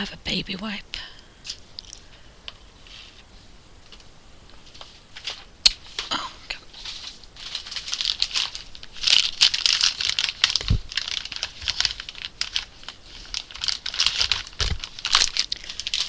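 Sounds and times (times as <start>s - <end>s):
plastic pack crinkling: 1.5s - 16.0s.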